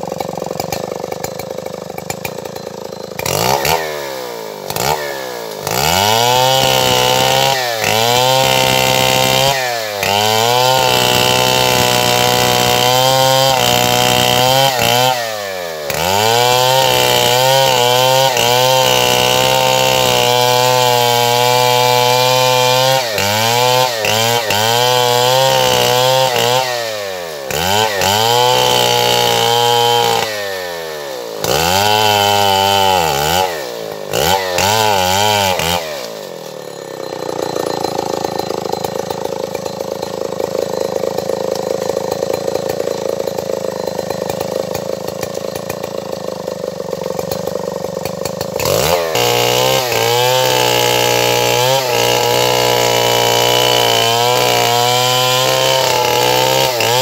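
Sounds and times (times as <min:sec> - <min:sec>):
chainsaw cutting wood: 0:00.0 - 0:57.0
chainsaw revving: 0:00.0 - 0:57.0.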